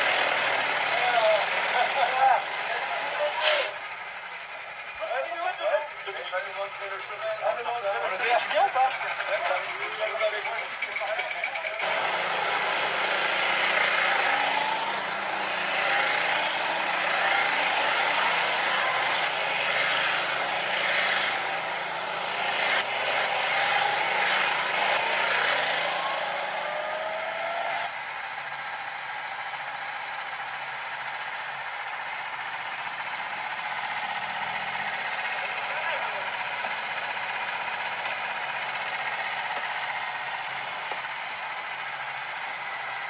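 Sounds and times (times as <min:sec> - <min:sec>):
go-kart engines accelerating: 0:00.0 - 0:43.0.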